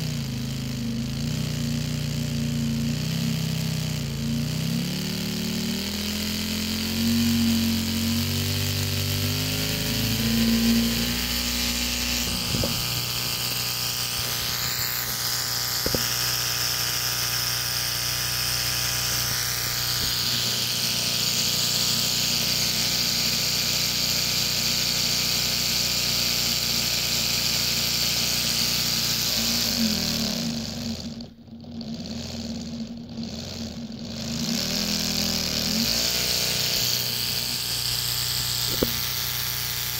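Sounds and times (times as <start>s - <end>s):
model engine humming: 0.0s - 39.9s.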